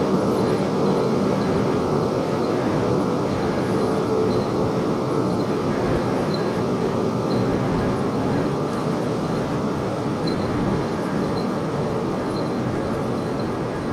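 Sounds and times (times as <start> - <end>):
high-speed train noise: 0.0 - 13.9.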